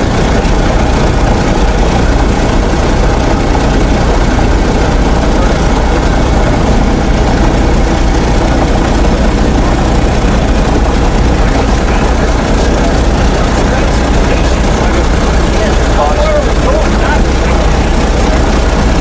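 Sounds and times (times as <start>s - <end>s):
radial piston engine idling: 0.0s - 19.0s.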